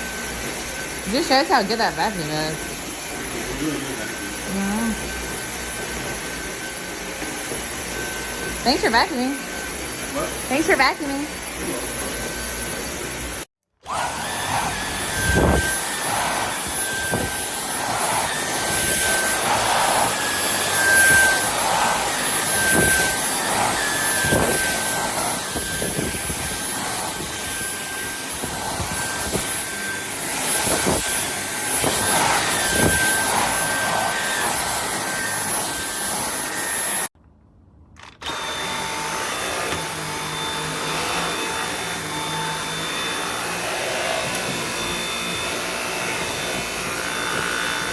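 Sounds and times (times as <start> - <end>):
vacuum cleaner whining: 0.0 - 37.2, 38.0 - 47.9.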